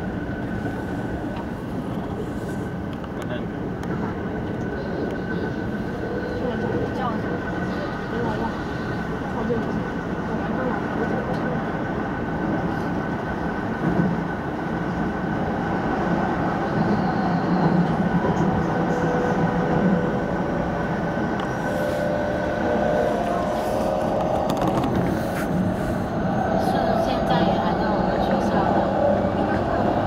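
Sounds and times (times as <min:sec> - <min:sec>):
oncoming train passing: 0:00.0 - 0:30.0
train wheels rumbling on rail: 0:00.0 - 0:30.0.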